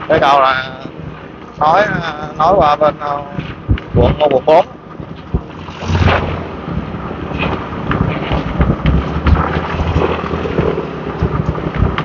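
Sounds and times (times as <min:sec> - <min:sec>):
scooter engines humming: 0:00.0 - 0:12.0
wind buffeting microphone: 0:00.0 - 0:12.0.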